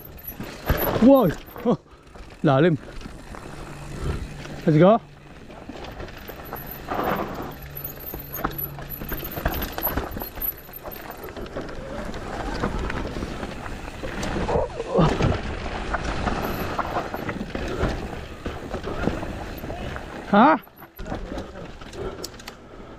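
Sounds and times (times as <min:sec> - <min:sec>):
bike rattling over rough ground: 0:00.0 - 0:22.9
bike tyres rushing on dirt: 0:00.0 - 0:22.9.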